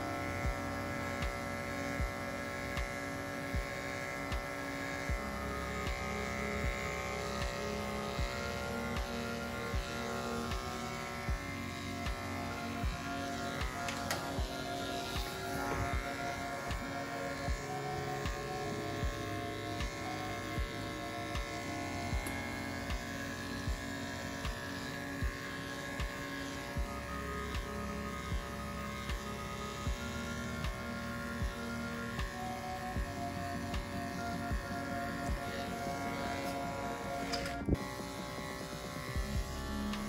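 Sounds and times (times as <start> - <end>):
background music with steady beat: 0.0 - 40.0
electric clippers buzzing: 0.0 - 40.0.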